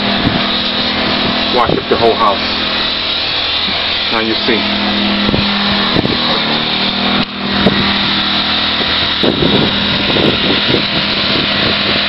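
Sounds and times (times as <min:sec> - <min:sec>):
pressure washer engine running: 0:00.0 - 0:12.0
rumble on the microphone: 0:00.0 - 0:12.0.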